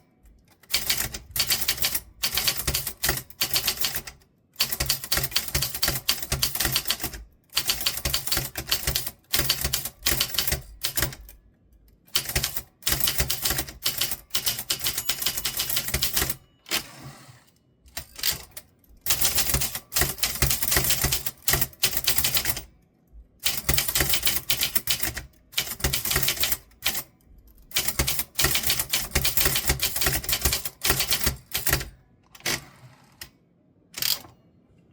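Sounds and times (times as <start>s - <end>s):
typewriter typing quickly: 0.6s - 11.3s, 12.1s - 16.8s, 18.0s - 22.6s, 23.4s - 27.1s, 27.7s - 32.6s.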